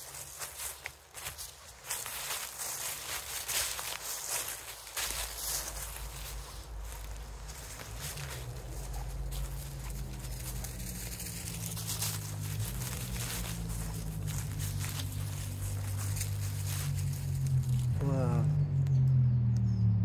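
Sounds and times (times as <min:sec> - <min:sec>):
footsteps crunching through leaves: 0:00.0 - 0:18.6.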